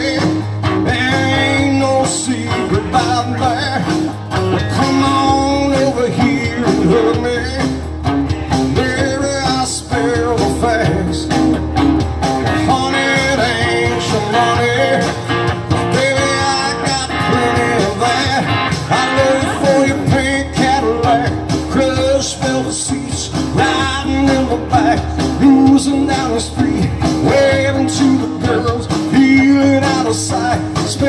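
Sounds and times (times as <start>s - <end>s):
acoustic guitar: 0.0s - 31.0s
electric guitar: 0.0s - 31.0s.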